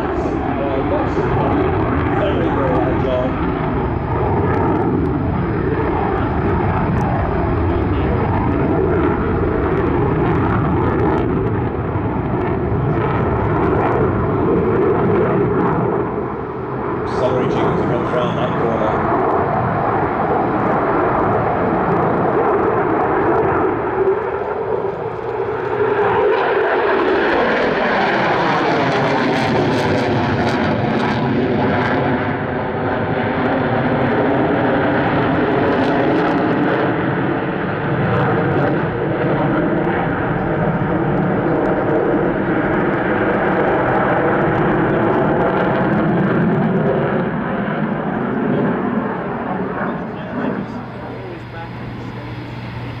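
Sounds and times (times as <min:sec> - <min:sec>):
jet engine crackling: 0:00.0 - 0:53.0
jet flying past: 0:00.0 - 0:53.0.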